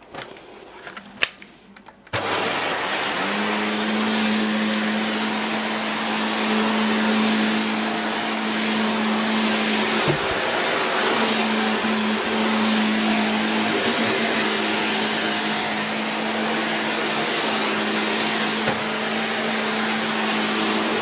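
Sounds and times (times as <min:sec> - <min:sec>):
vacuum cleaner motor running: 0:02.1 - 0:21.0.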